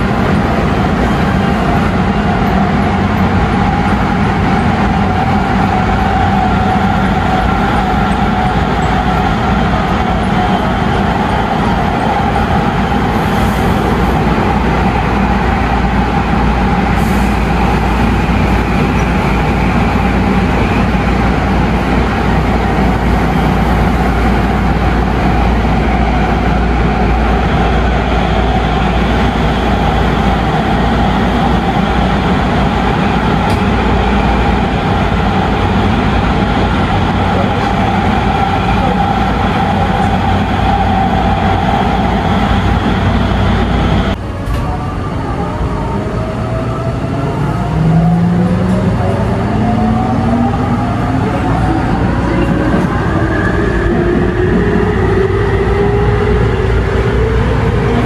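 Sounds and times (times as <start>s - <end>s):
train running roar in tunnel: 0.0s - 58.0s.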